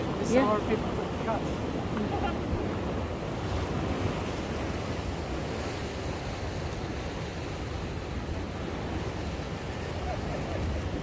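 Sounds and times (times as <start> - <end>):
sea waves against breakwater: 0.0 - 11.0
wind buffeting microphone: 0.0 - 11.0.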